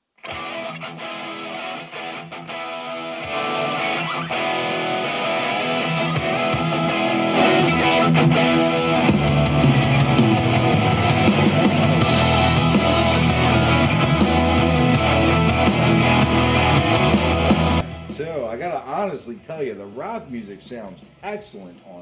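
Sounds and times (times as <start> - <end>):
guitar rock music: 0.1 - 21.6
bass: 3.3 - 22.0.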